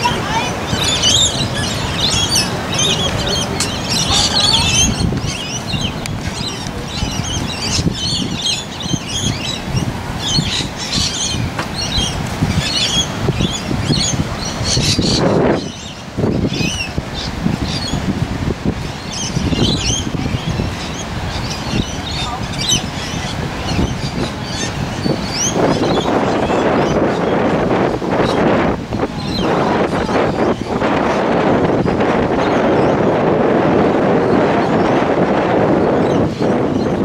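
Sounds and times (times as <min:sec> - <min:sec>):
birds chattering: 0:00.0 - 0:33.2, 0:34.1 - 0:37.0.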